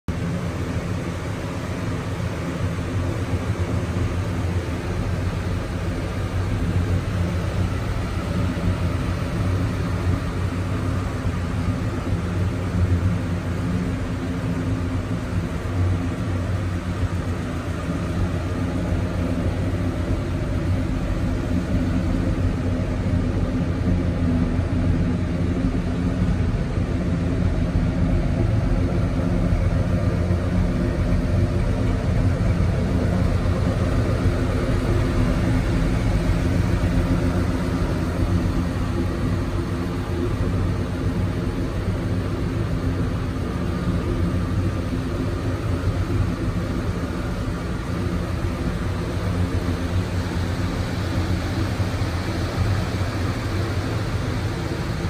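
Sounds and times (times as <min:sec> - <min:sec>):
pickup engine idling: 0:00.2 - 0:55.0.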